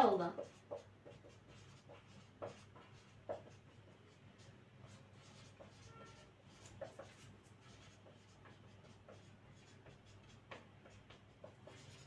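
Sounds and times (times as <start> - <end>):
marker writing on whiteboard: 0.0 - 12.0.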